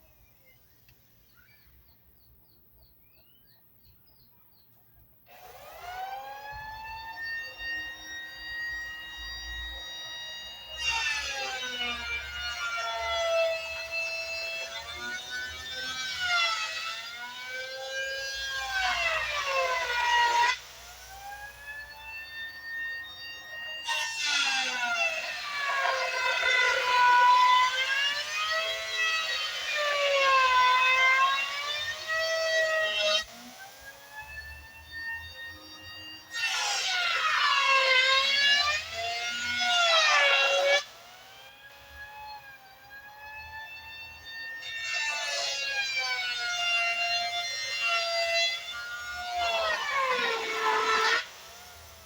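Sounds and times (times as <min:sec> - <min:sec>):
electric planer motor whine: 0:05.3 - 0:52.0.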